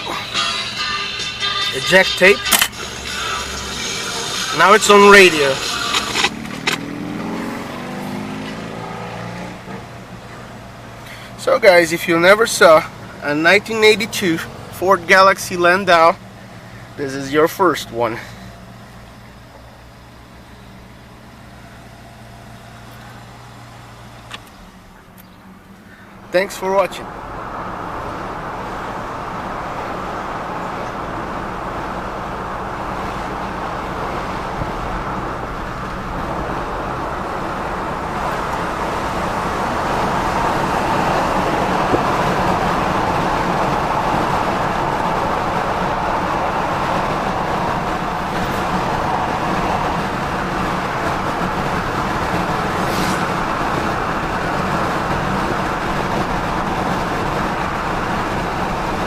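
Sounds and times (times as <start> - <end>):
car engine and road noise inside cabin: 0.0 - 59.0.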